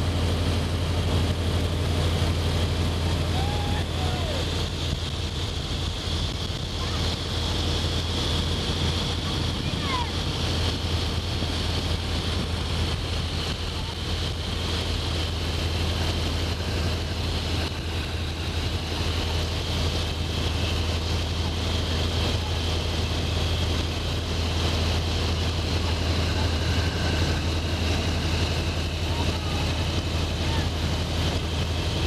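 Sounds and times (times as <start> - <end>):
biplane engine droning: 0.0 - 32.0.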